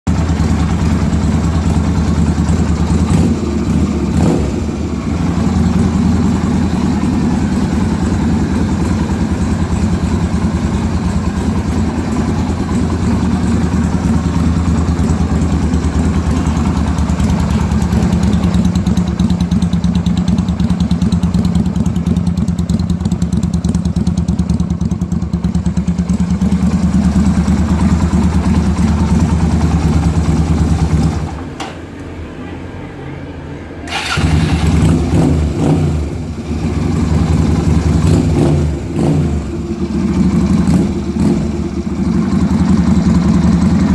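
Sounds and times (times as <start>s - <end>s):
motorcycle engine idling: 0.1s - 31.5s, 33.9s - 43.9s.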